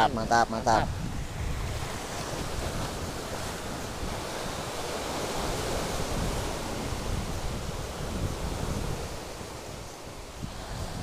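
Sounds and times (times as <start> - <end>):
wind buffeting microphone: 0.0 - 11.0
sea waves breaking on rocks: 0.9 - 11.0.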